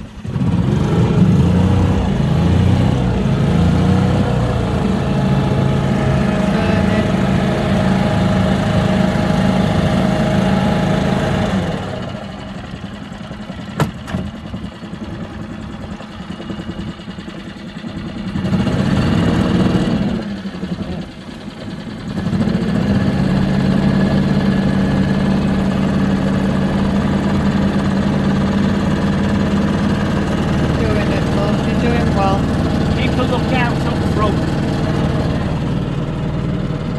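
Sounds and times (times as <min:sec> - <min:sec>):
outboard motor running: 0:00.0 - 0:36.9.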